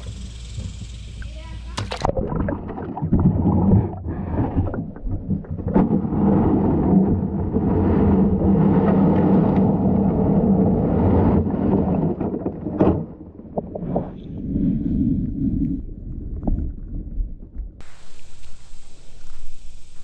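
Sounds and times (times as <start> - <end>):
muffled underwater creek rumble: 0.0 - 20.0.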